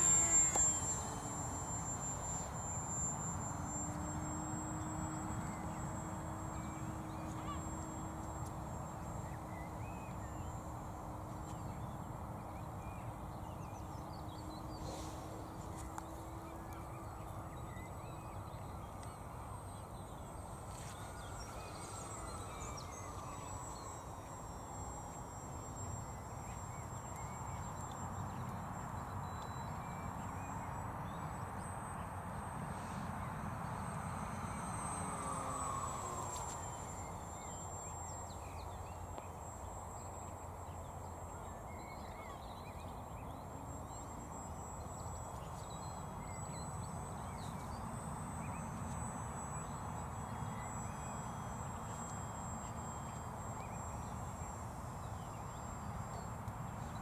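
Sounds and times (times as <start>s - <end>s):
distant model plane motor whine: 0.0s - 57.0s.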